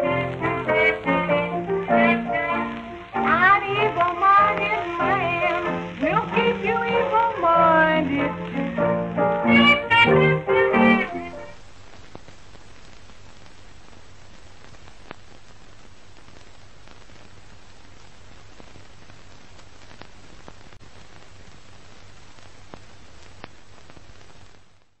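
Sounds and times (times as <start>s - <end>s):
crackly hiss: 0.0s - 25.0s
faint clicks and pops: 0.0s - 25.0s.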